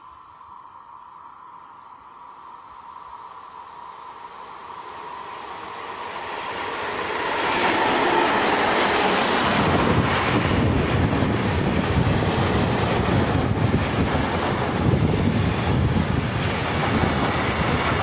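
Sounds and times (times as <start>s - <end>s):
diesel freight train passing: 3.0s - 18.0s.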